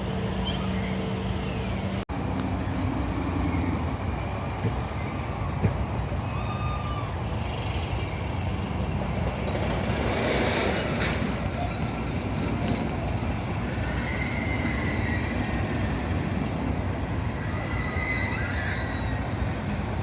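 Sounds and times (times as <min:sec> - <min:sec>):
heavy machinery rumbling: 0:00.0 - 0:17.8.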